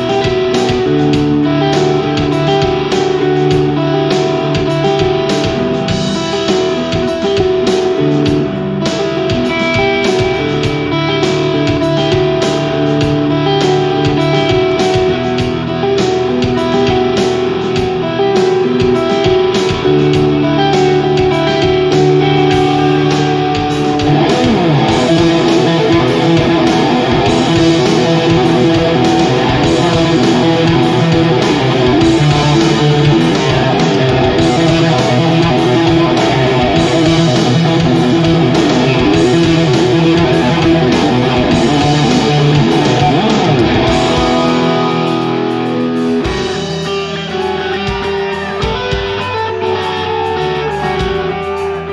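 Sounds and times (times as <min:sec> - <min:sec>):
steady percussive beat: 0:00.0 - 0:51.8
electric guitar melody: 0:00.0 - 0:51.9.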